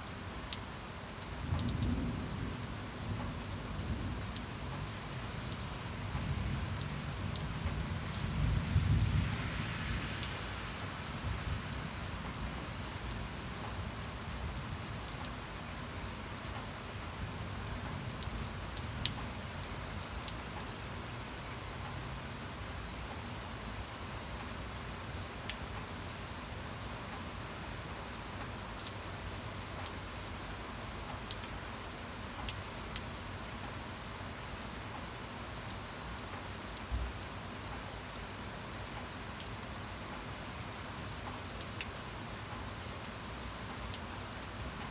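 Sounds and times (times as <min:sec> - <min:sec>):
raindrop ticks: 0:00.0 - 0:09.1, 0:11.5 - 0:33.8, 0:35.7 - 0:44.9
rain falling: 0:00.0 - 0:44.9.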